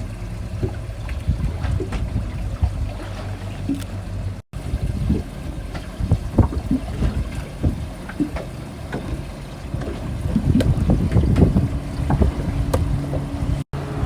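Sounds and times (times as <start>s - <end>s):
wind on microphone: 0.0s - 3.8s, 4.6s - 14.0s
water slapping against hull: 0.0s - 13.7s
boat engine hum: 0.0s - 14.0s.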